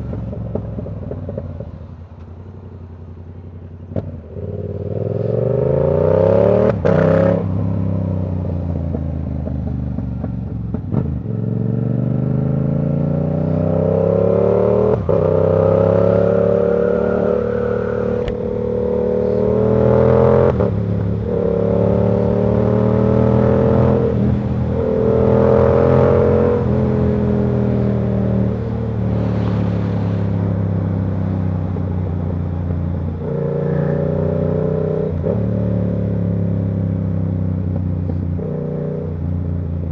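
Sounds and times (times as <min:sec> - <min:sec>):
motorcycle engine accelerating: 0:02.7 - 0:39.9.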